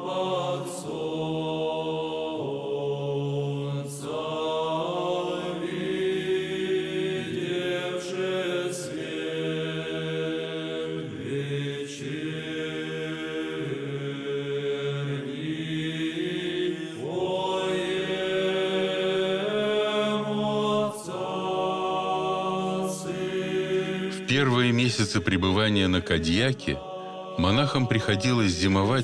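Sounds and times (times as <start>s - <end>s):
low voices chanting: 0.0s - 29.0s.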